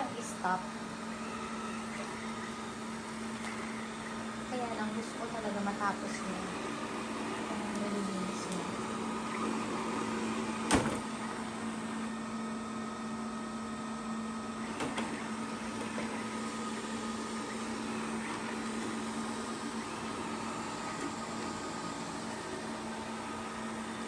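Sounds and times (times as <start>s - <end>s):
robot vacuum motor hum: 0.0s - 24.0s.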